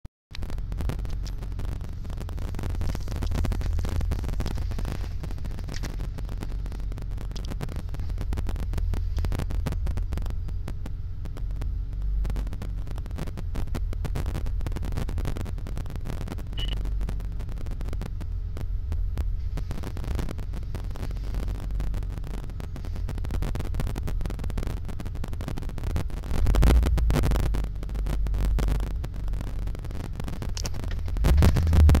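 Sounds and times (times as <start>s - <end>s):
car engine idling roughly: 0.4s - 32.0s.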